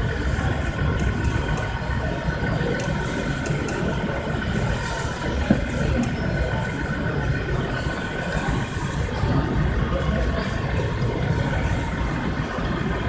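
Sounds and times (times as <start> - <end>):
low rumble of hall: 0.0 - 13.0.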